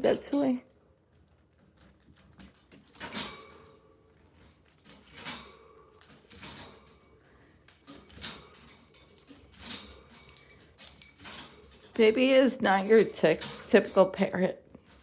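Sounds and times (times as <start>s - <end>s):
toy clattering and rattling: 1.4s - 15.0s.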